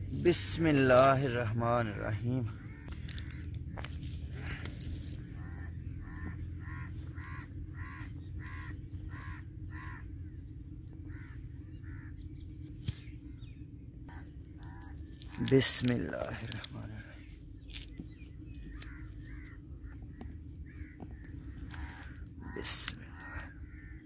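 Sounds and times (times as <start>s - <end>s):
low background hum: 0.0s - 24.0s
crow cawing: 1.8s - 12.3s, 14.1s - 17.9s, 18.6s - 24.0s.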